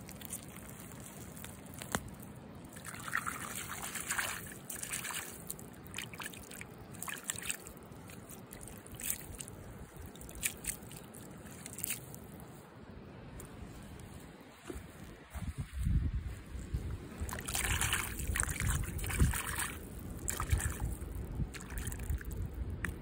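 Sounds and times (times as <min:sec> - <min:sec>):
hands sloshing in muddy water: 0:00.0 - 0:12.6, 0:16.8 - 0:23.0.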